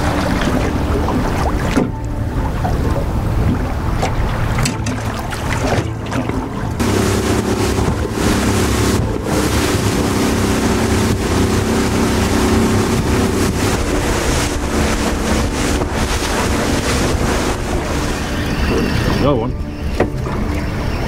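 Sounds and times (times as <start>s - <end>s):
outboard motor running: 0.0s - 21.0s
water splashing off hull: 0.0s - 21.0s
wind buffeting microphone: 0.0s - 21.0s.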